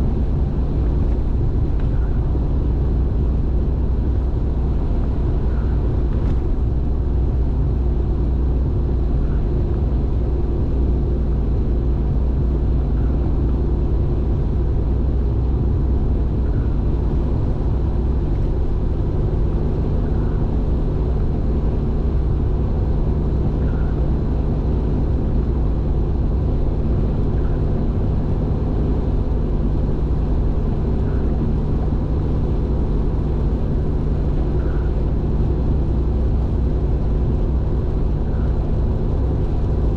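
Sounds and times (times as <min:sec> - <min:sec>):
car interior road drone: 0:00.0 - 0:39.9.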